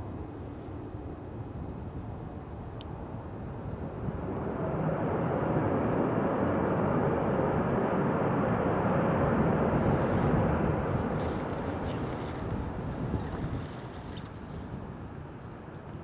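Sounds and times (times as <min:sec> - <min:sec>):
deep jet engine rumble: 0:00.0 - 0:16.0.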